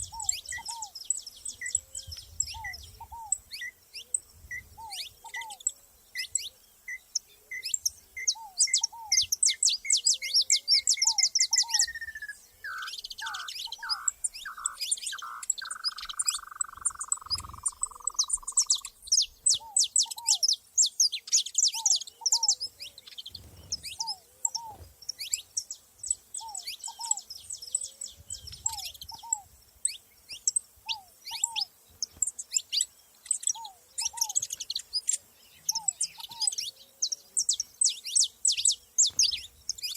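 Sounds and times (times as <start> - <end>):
finches chirping trills: 0.0 - 39.9.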